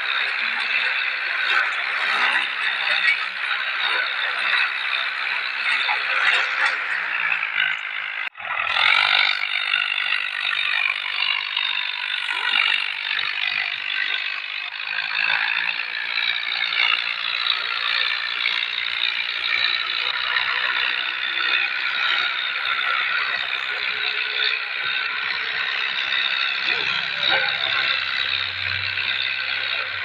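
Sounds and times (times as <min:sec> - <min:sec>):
tractor with rotavator rattling: 0:00.0 - 0:30.0.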